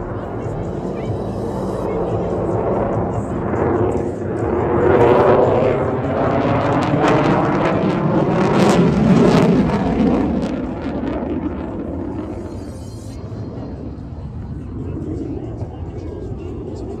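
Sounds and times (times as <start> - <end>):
aircraft roar flying past: 0.0 - 17.0.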